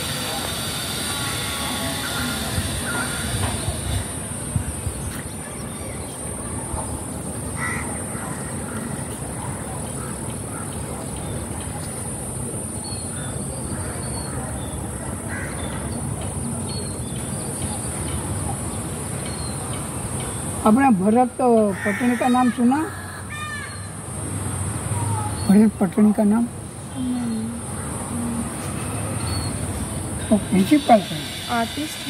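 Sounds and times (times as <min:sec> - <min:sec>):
constant high-pitched hiss: 0:00.0 - 0:32.0.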